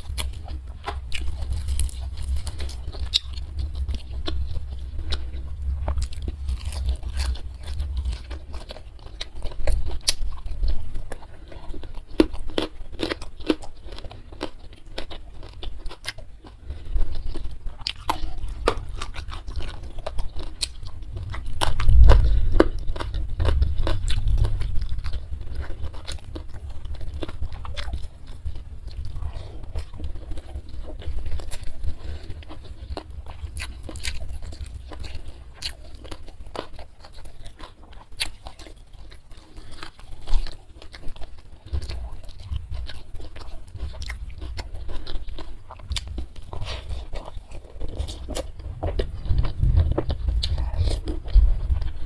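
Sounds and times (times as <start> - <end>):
close chewing and crunching: 0.0 - 52.0.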